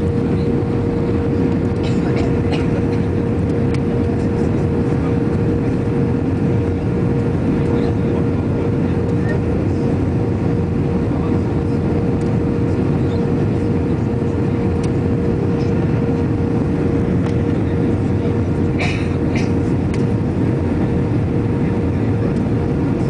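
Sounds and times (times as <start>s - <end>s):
airplane cabin engine and airflow noise: 0.0s - 23.0s
steady hum: 0.0s - 23.0s.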